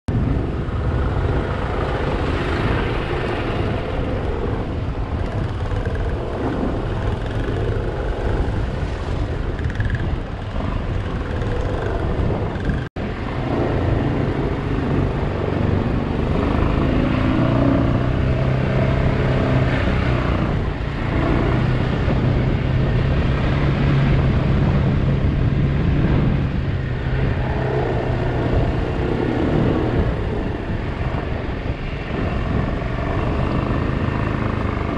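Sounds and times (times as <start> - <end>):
wind rushing on microphone: 0.1 - 34.9
motorcycle engine revving: 0.2 - 34.9.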